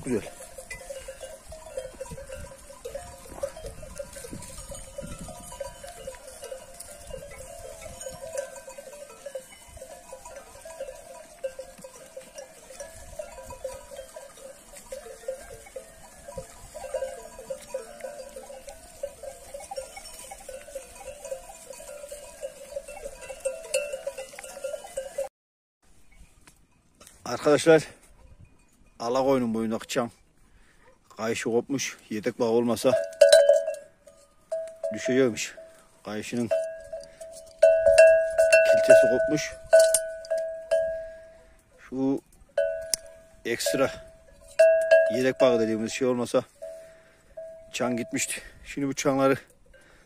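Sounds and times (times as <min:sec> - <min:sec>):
sheep bells clanking: 0:00.0 - 0:25.3, 0:26.1 - 0:50.0.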